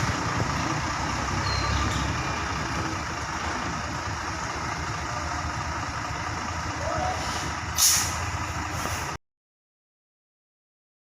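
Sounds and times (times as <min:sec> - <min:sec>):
truck diesel engine running: 0:00.0 - 0:09.2.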